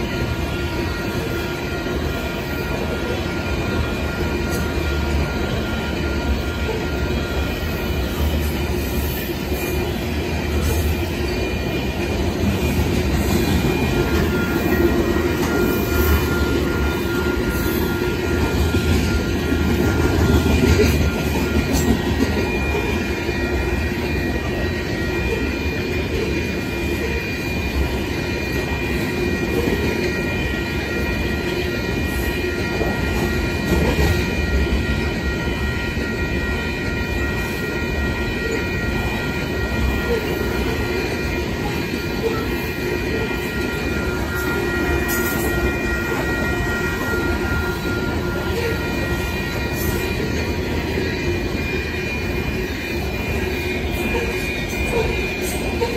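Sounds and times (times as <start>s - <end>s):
train wheels rumbling and clattering: 0.0s - 55.9s.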